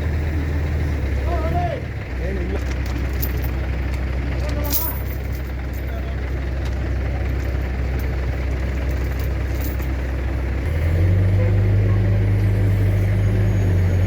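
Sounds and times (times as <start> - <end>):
large vehicle engine idling and revving: 0.0 - 14.0.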